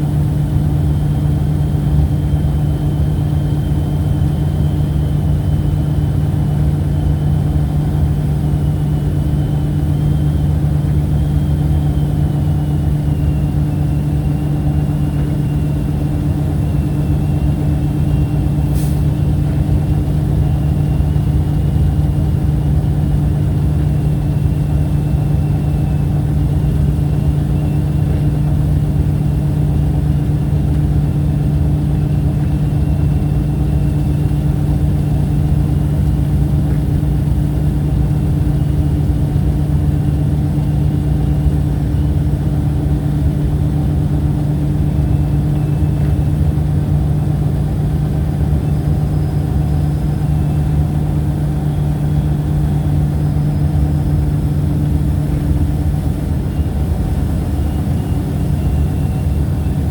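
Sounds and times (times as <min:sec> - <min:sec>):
low motor hum: 0:00.0 - 0:59.9.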